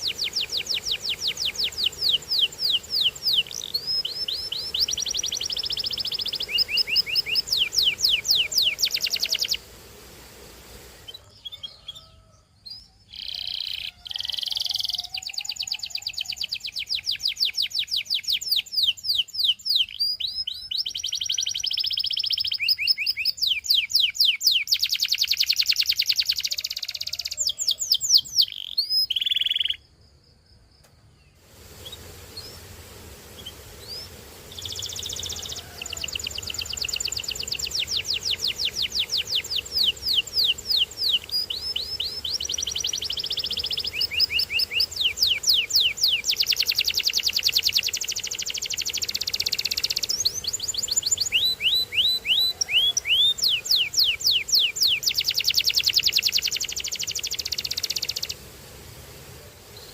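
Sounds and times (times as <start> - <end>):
canary singing rapid trills: 0.0 - 9.7, 11.0 - 29.8, 33.4 - 58.4.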